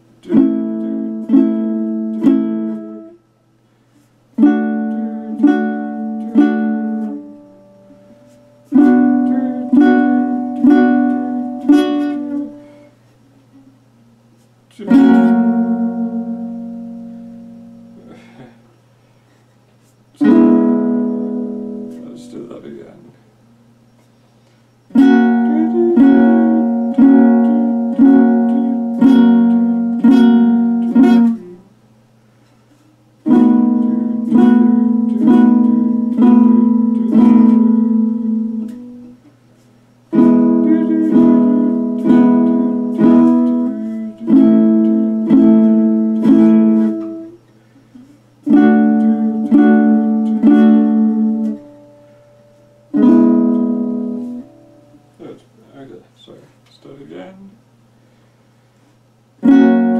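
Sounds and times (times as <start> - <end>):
ukulele strummed chords: 0.0 - 3.3, 4.3 - 14.1, 14.7 - 18.6, 20.2 - 23.1, 24.9 - 31.8, 33.2 - 39.4, 40.0 - 55.5, 59.3 - 59.9.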